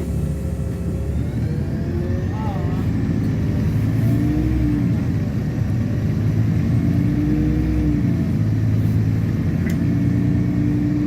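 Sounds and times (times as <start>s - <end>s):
bus engine and drivetrain hum: 0.0s - 11.0s.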